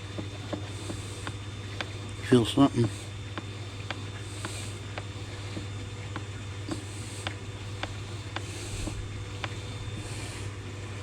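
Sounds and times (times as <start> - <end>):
soft hissy squishes: 0.0 - 11.0
steady low hum: 0.0 - 11.0.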